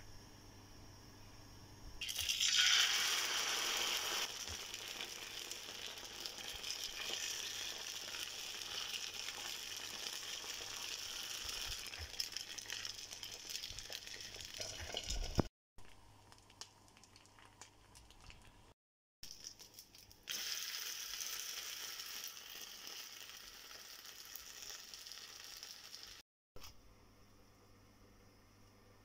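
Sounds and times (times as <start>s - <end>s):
batter sizzling on a hot pan: 2.0s - 18.5s, 19.2s - 26.2s.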